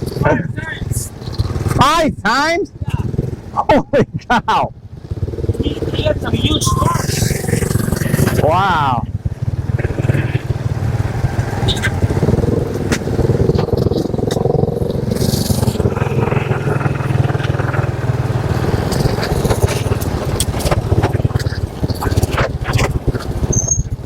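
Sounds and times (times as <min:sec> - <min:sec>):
motorcycle engine running: 0:00.0 - 0:02.0, 0:02.7 - 0:24.0.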